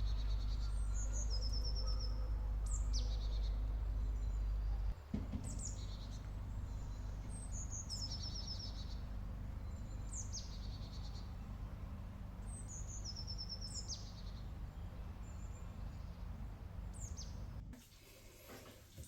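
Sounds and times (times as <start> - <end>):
songbird singing trills: 0.0 - 17.6
low background rumble: 0.0 - 17.8.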